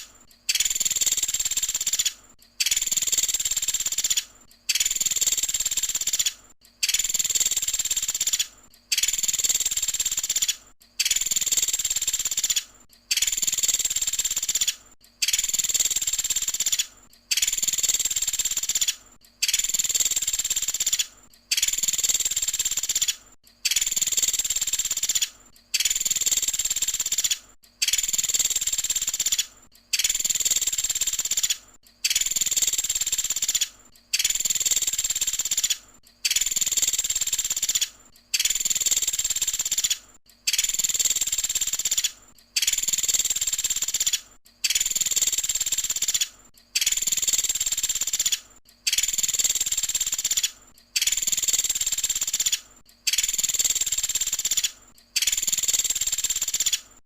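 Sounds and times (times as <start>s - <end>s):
woodpecker high-pitched call: 0.0s - 56.9s.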